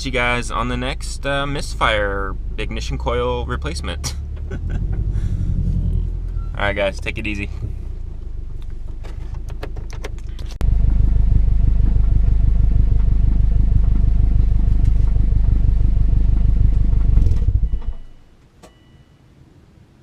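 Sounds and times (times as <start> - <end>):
car engine low pulsing rumble: 0.0 - 18.4.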